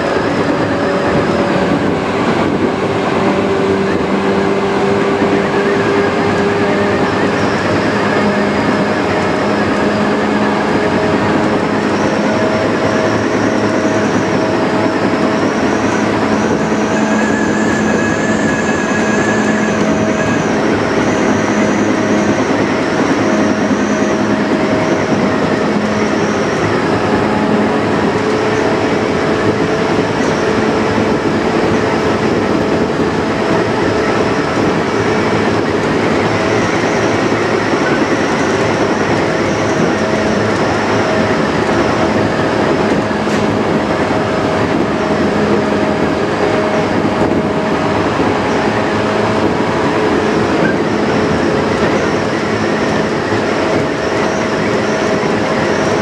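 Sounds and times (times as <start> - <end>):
train motor hum and whine: 0.0 - 56.0
wheels rumbling on rail: 0.0 - 56.0.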